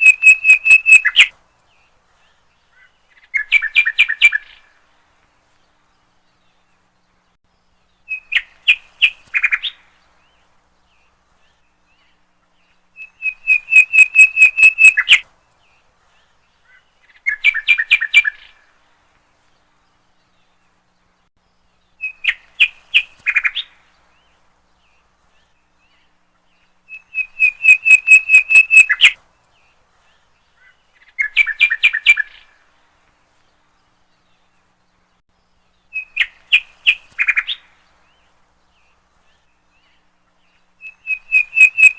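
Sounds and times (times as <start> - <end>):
bird chirping song: 0.0 - 41.9.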